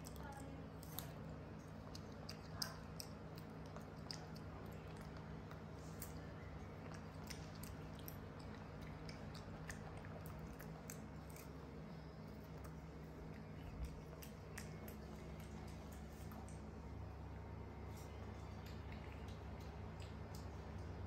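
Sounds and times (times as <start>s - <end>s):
faint steady hum: 0.0s - 21.0s
monkey chewing fruit: 0.0s - 21.0s.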